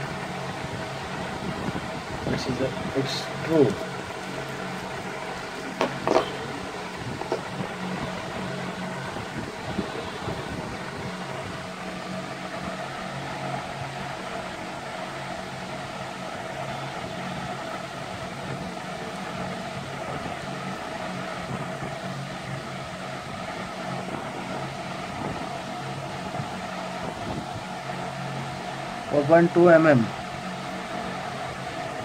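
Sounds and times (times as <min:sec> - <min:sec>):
machine hum: 0:00.0 - 0:32.0.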